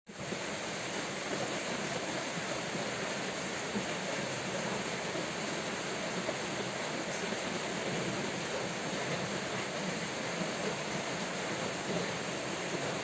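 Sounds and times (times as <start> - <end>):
steady rain falling: 0.1 - 13.0.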